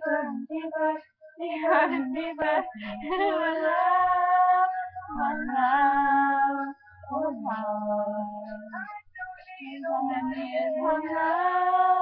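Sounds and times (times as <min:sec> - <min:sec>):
girls singing: 0:00.0 - 0:12.0.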